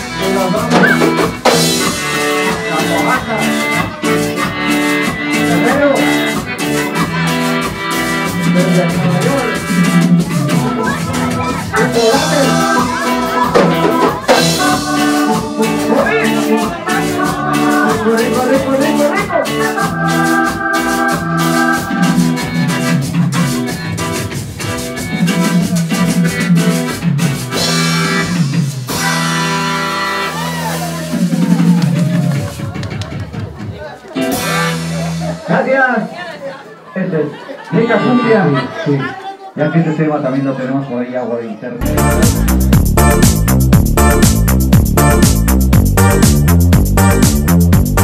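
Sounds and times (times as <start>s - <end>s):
band playing cumbia: 0.0s - 40.9s, 41.8s - 48.0s.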